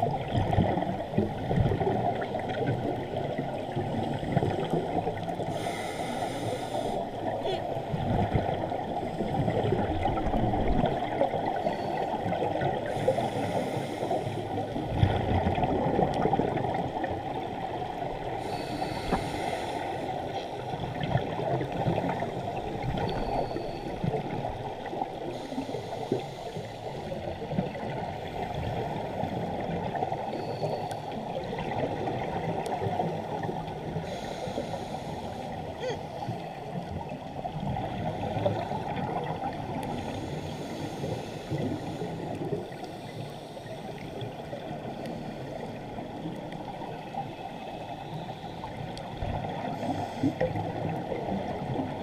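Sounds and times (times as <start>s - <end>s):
muffled underwater rushing and gurgling: 0.0s - 52.0s.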